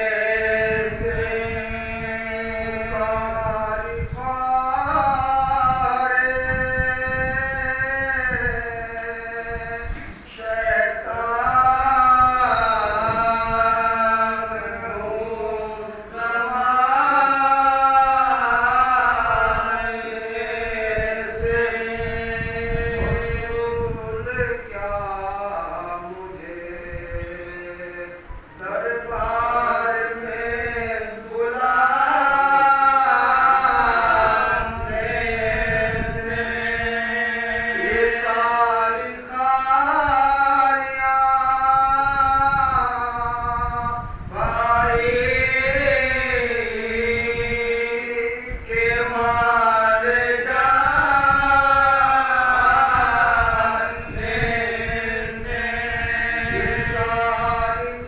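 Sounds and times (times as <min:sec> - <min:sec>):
man chanting into a microphone: 0:00.0 - 0:58.0.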